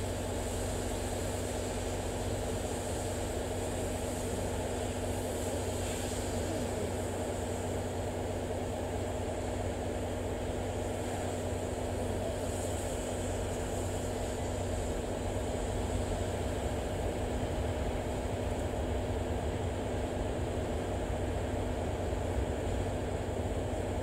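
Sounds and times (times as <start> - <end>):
steam locomotive rumbling slowly: 0.0 - 24.0.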